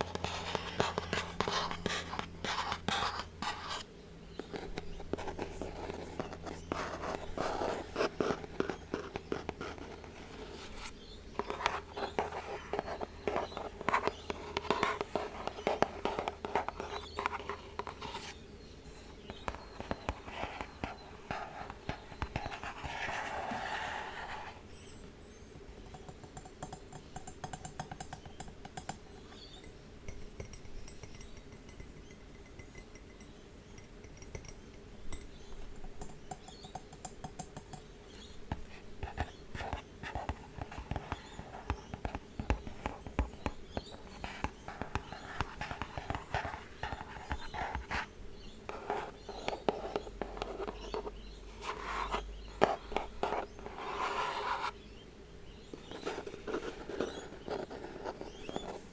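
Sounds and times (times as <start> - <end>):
fingers tapping and scratching objects: 0.0 - 58.9.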